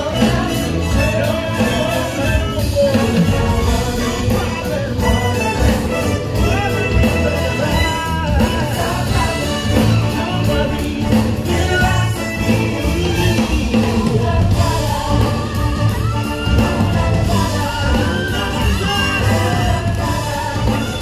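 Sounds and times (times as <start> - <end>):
lively show music with singing: 0.0 - 21.0.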